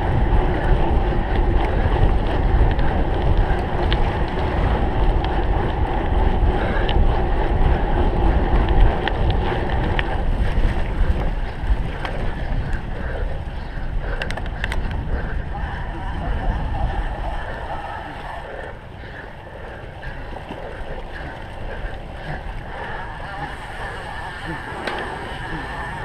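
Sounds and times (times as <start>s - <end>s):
bike clicks and rattles: 0.0s - 26.0s
wind noise on microphone: 0.0s - 26.0s.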